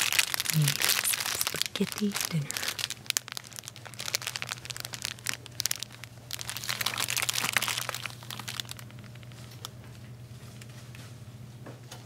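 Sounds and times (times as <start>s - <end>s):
plastic bag crinkling: 0.0s - 10.7s
faint steady hum: 0.0s - 12.0s.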